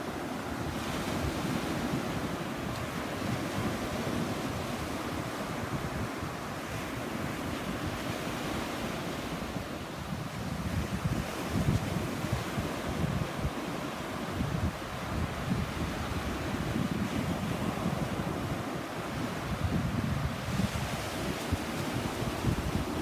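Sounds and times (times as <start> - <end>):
sea waves washing on shore: 0.0 - 23.0
wind buffeting microphone: 0.6 - 23.0.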